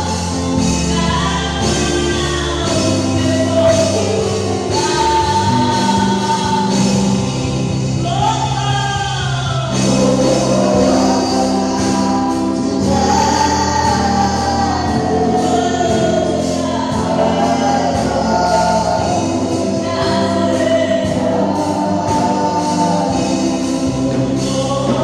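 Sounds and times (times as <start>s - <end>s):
choir singing gospel: 0.0s - 25.0s
instrumental accompaniment: 0.0s - 25.0s.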